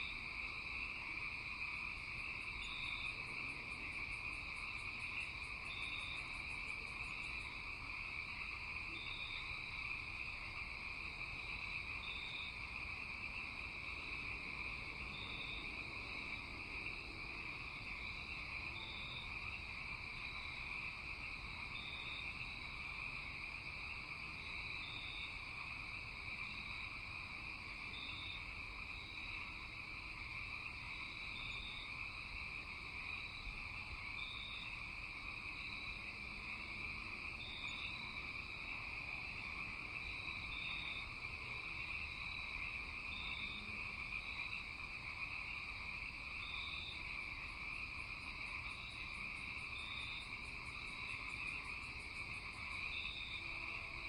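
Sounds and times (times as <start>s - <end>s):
insect chirps: 0.0s - 54.0s
insects trilling: 0.0s - 54.0s.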